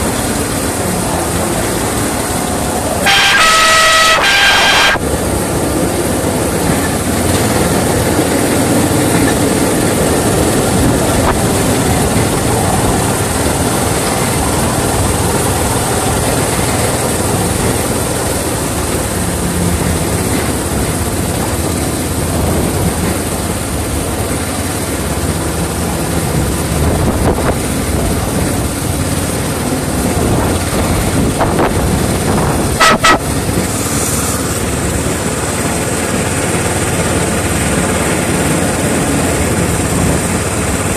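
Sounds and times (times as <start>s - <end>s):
miniature locomotive running: 0.0s - 40.9s.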